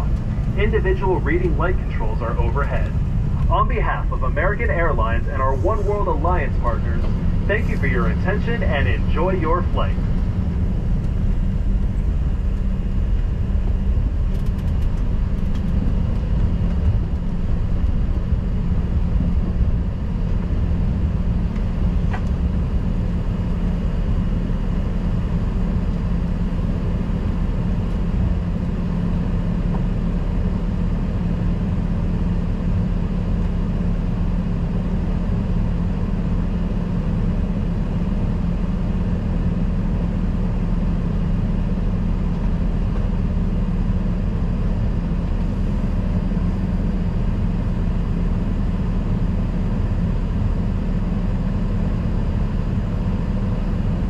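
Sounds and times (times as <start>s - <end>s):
aircraft cabin drone: 0.0s - 54.0s
jet engines and air conditioning hum: 0.0s - 54.0s.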